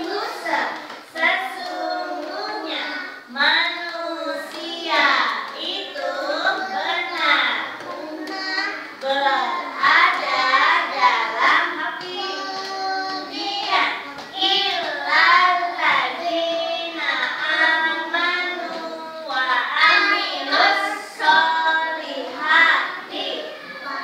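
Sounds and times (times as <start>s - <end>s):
children singing: 0.0s - 24.0s.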